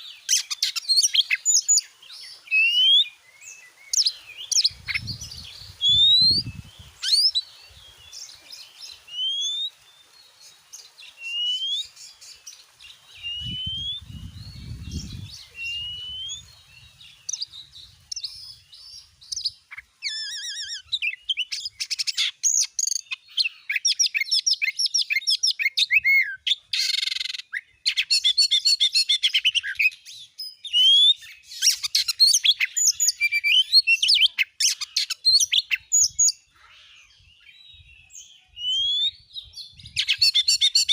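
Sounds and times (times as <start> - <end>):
bird singing whistles: 0.0 - 9.8, 11.0 - 12.4, 13.1 - 40.9.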